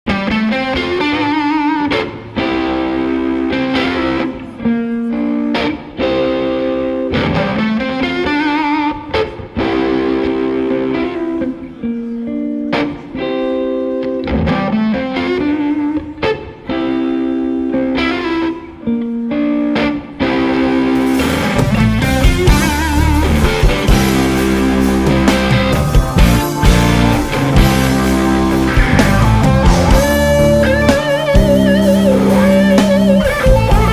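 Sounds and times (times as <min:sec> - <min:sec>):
electric guitar chords: 0:00.0 - 0:33.9.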